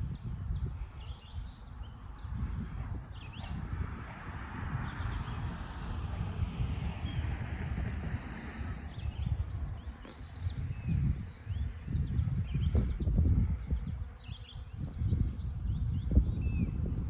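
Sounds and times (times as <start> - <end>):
small birds chirping: 0.0 - 5.5, 7.0 - 17.0.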